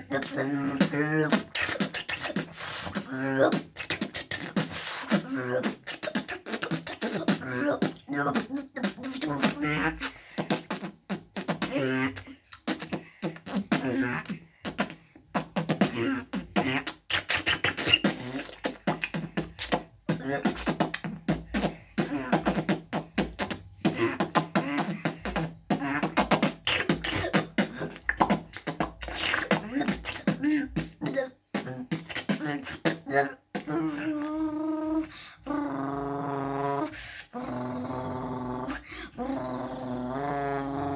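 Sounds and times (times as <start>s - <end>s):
boy beatboxing: 0.0s - 40.9s.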